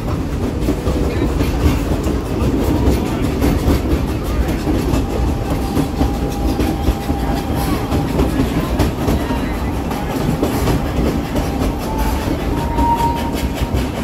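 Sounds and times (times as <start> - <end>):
train rumbling over rail joints: 0.0 - 14.0.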